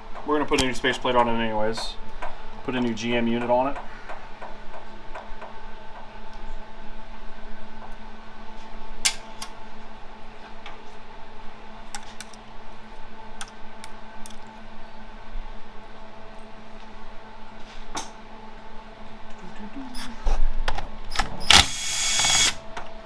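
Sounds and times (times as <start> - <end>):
background hum: 0.0 - 23.0.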